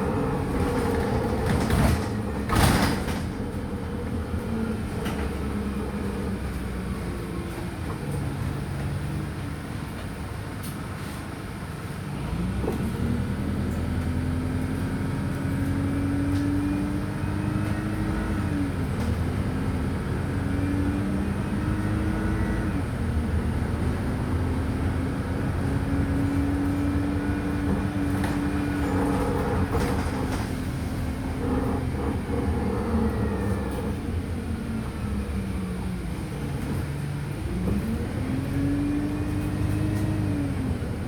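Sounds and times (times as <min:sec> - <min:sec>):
bus diesel engine pulling away: 0:00.0 - 0:41.0.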